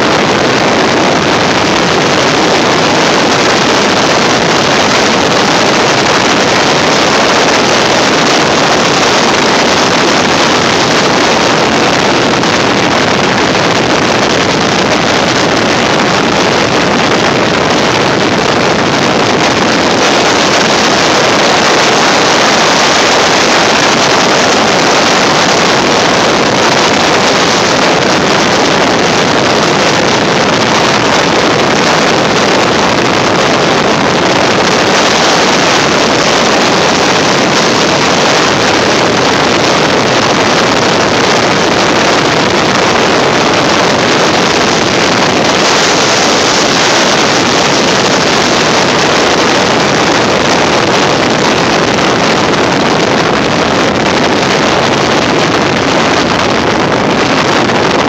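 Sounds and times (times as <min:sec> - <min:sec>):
car wind and road noise: 0:00.0 - 0:58.0
wind on microphone: 0:00.0 - 0:58.0.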